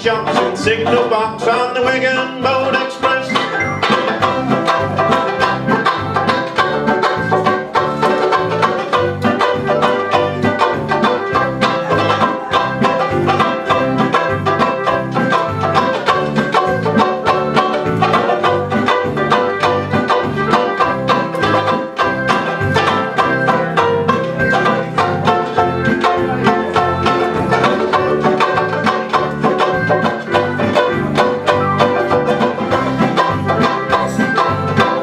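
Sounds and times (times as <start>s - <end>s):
fast banjo-like strumming: 0.0s - 35.0s.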